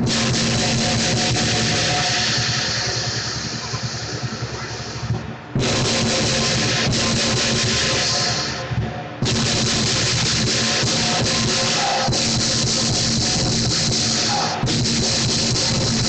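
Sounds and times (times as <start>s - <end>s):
clashing cymbals: 0.0s - 16.0s
large drum pounding: 0.0s - 16.0s.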